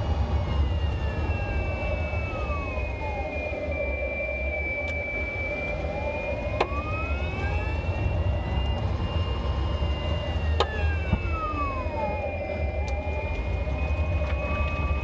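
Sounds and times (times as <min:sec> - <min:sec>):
electric motor whining: 0:00.0 - 0:15.0
low road rumble: 0:00.0 - 0:15.0.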